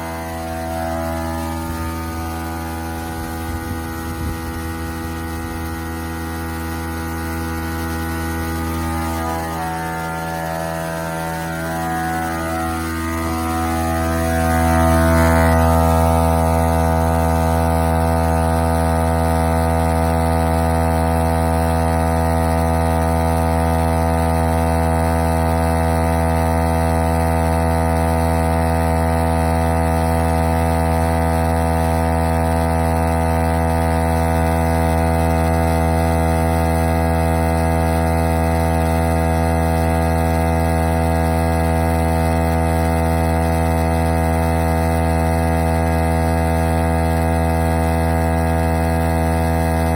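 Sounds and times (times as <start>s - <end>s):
tire inflator compressor humming: 0.0s - 49.9s.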